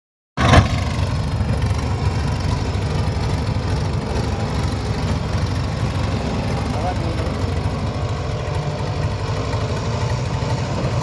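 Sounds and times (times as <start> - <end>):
tractor diesel engine running: 0.4 - 11.0.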